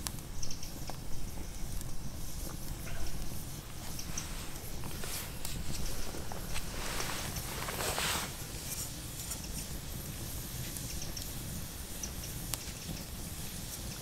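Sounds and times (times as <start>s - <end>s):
low steady rumble: 0.0s - 13.8s.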